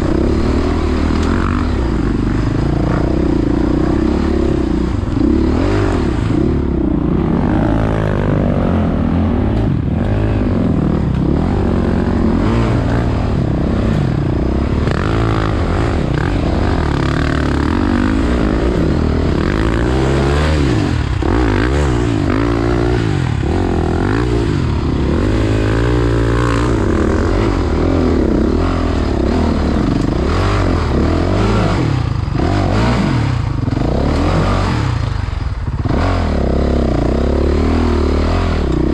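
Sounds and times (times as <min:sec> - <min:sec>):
steady low rumble: 0:00.0 - 0:37.9
motocross bike engines revving: 0:00.0 - 0:38.9.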